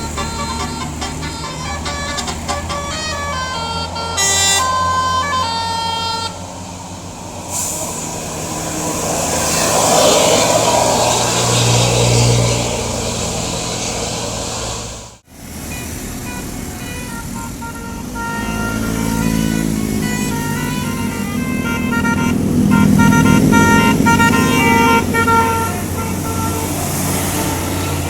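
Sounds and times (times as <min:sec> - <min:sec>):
tuned bus air horns playing tune: 0:00.0 - 0:28.0.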